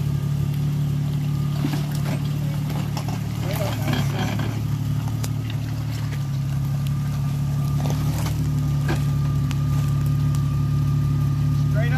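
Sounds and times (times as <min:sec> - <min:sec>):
car engine at low revs: 0:00.0 - 0:11.9.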